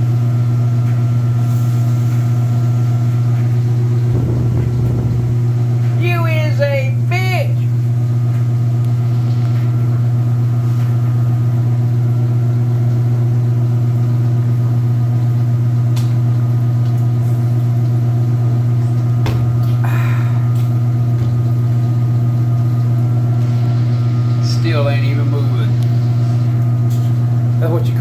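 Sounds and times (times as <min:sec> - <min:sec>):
washing machine motor hum: 0:00.0 - 0:28.0.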